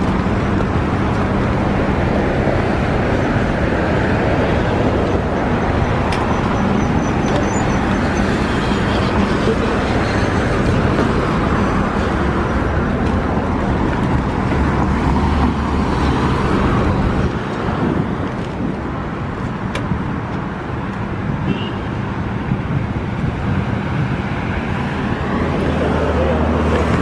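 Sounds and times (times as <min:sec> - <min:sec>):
cars passing on city street: 0:00.0 - 0:27.0.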